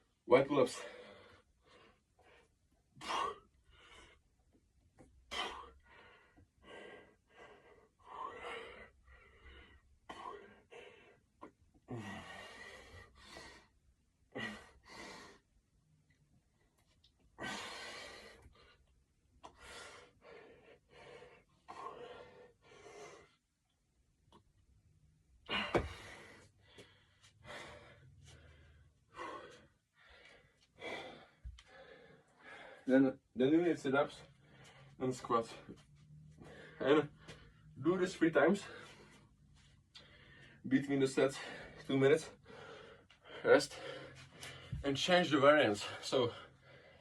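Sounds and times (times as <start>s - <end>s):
man breathing hard: 0.7s - 15.6s, 17.0s - 23.6s, 25.4s - 33.3s, 34.1s - 37.8s, 38.5s - 44.8s, 45.6s - 47.0s.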